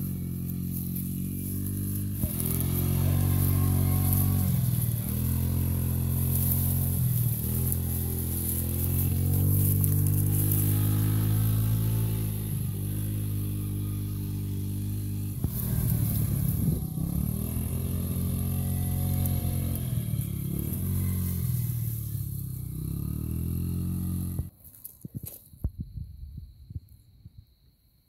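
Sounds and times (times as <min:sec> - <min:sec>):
atv engines running: 0:00.0 - 0:24.9.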